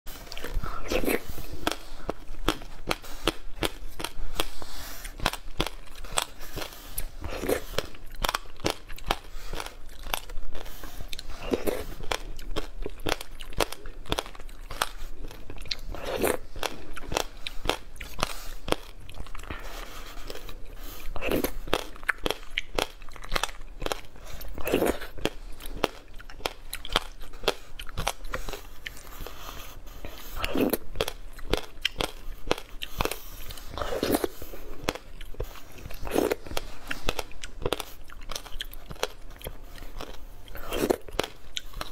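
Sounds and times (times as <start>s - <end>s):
person crunching seeds: 0.2s - 41.9s.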